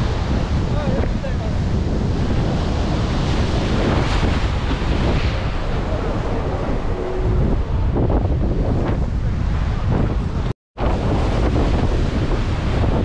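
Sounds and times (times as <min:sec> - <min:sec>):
surf washing in and out: 0:00.0 - 0:13.0
wind buffeting microphone: 0:00.0 - 0:13.0.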